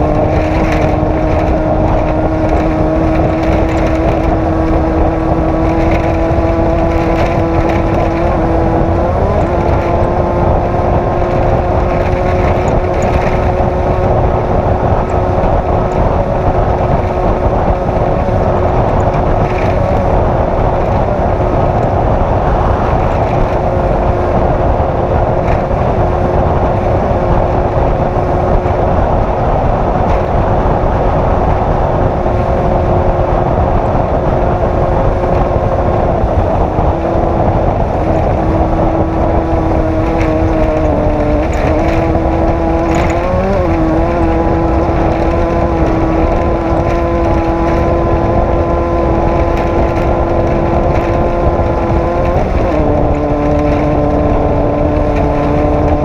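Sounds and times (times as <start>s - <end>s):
race vehicle engine running hard: 0.0s - 56.0s.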